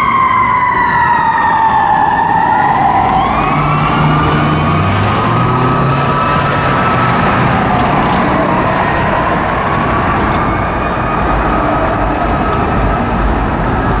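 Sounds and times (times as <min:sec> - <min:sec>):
fire truck siren: 0:00.0 - 0:14.0
heavy vehicle engines and traffic: 0:00.0 - 0:14.0.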